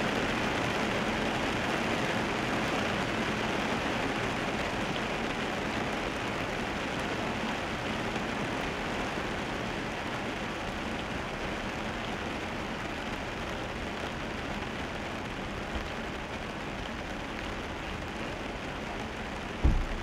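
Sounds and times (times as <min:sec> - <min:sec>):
rain noise: 0:00.0 - 0:20.0
tyres on wet road: 0:00.1 - 0:20.0.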